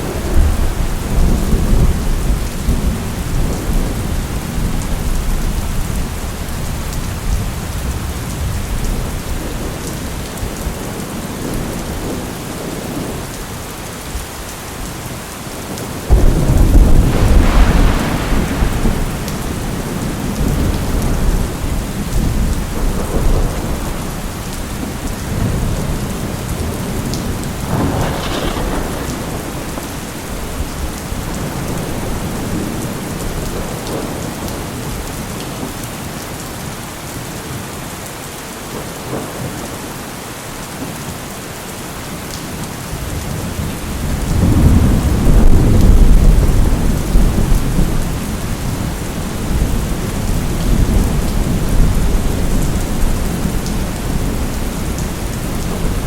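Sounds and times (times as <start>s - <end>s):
thunder rumbling: 0.0s - 13.3s, 15.6s - 35.1s, 43.0s - 56.0s
steady rain: 0.0s - 56.0s.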